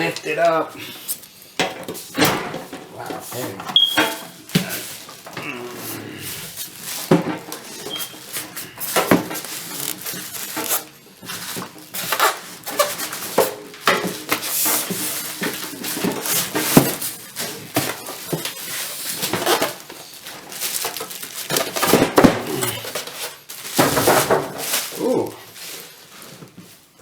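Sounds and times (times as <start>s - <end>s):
metal tool chest clanking: 0.0s - 26.2s
scraping and rustling: 0.0s - 27.0s.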